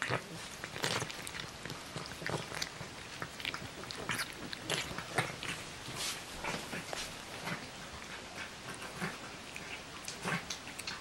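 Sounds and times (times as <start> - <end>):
cat eating wet food: 0.0 - 11.0.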